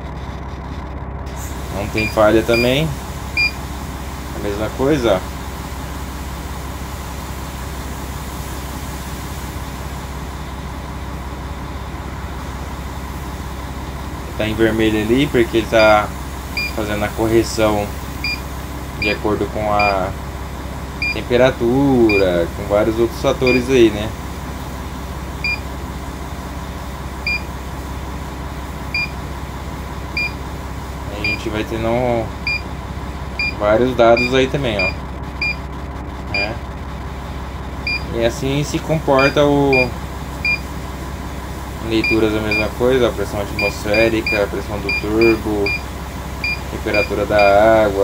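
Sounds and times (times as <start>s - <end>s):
diesel bus engine idling: 0.0s - 48.0s.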